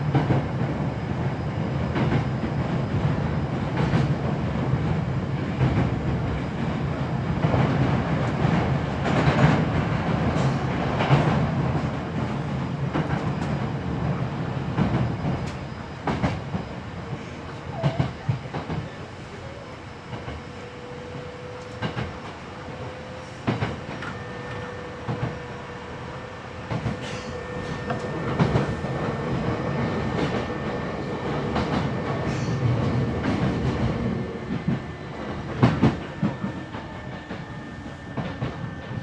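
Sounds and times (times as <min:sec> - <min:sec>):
train rumbling: 0:00.0 - 0:39.0.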